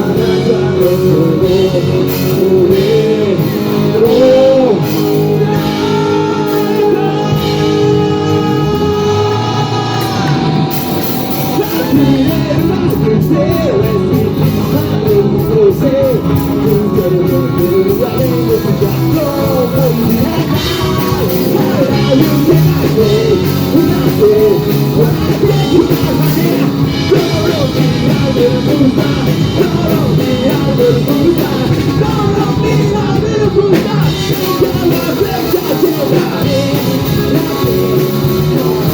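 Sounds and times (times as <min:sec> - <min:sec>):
person singing loudly: 0:00.0 - 0:38.9
rock band playing: 0:00.0 - 0:38.9.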